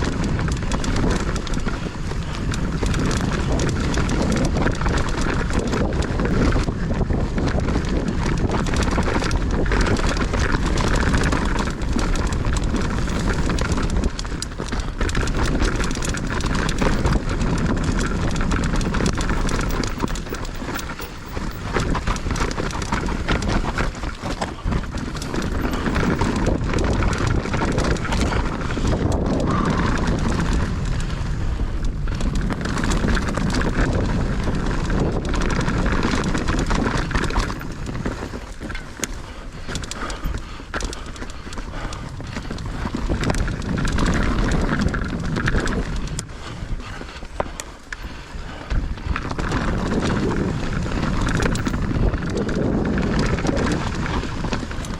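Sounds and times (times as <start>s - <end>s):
bike rattling over bumps: 0.0s - 54.9s
bike tyres on dirt trail: 0.0s - 54.9s
wind on microphone: 0.0s - 54.9s.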